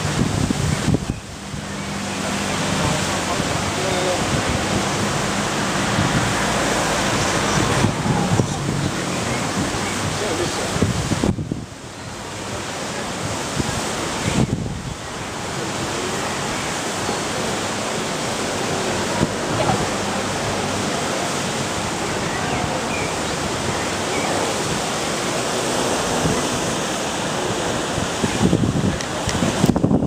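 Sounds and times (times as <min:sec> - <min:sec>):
water rushing through lock gate: 0:00.0 - 0:30.0.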